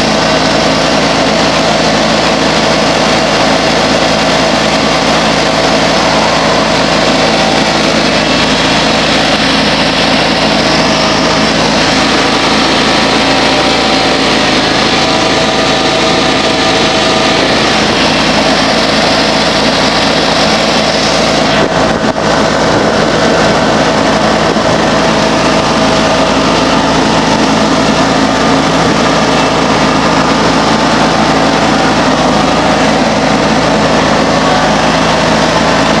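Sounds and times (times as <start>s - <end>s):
garden tractor engine running: 0.0s - 36.0s.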